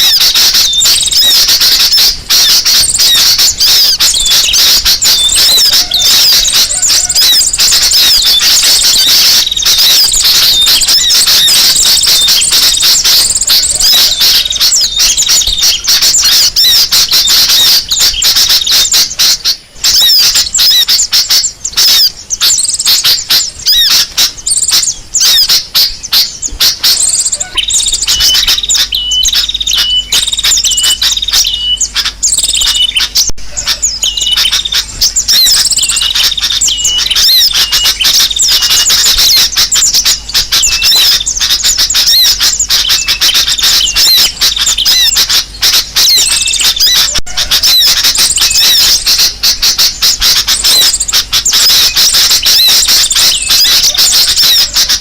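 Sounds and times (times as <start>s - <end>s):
birds chirping chatter: 0.0s - 55.0s.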